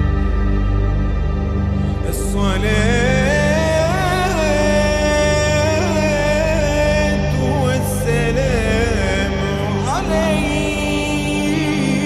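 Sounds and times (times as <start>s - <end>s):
steady drone: 0.0s - 12.0s
solo voice chanting: 1.9s - 12.0s.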